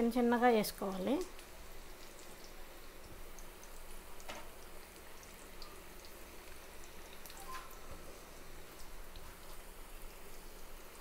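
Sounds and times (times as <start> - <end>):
hot oil sizzling and bubbling: 0.0 - 11.0.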